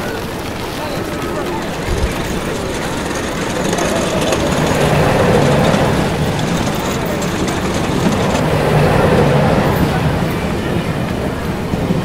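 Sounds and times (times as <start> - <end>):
boat rolling down water chute: 0.0 - 12.0
crowd voices: 0.0 - 12.0.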